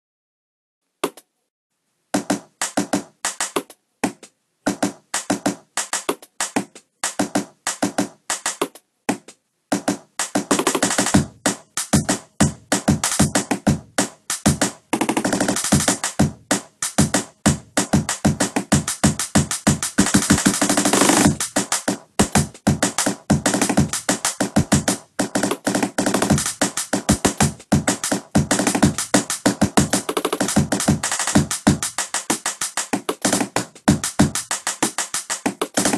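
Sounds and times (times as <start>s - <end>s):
beatboxing drum hits: 2.2s - 35.9s.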